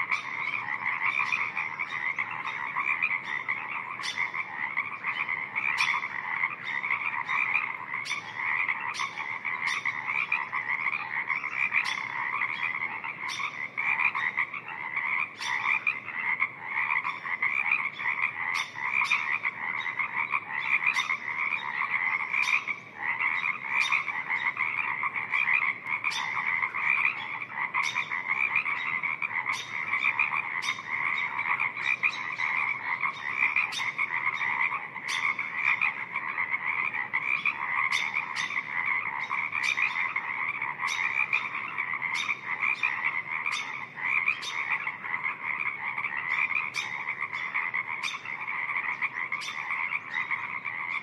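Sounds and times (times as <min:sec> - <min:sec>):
frog chorus: 0:00.0 - 0:51.0
loud single frog calls: 0:00.0 - 0:51.0.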